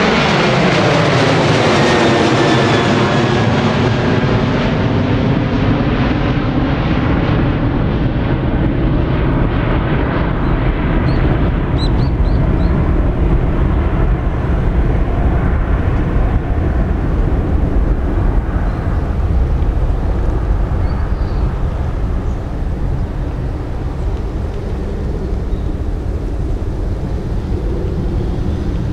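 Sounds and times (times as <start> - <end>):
jet engine hiss and whine: 0.0 - 28.9
jet engines rumbling: 0.0 - 28.9.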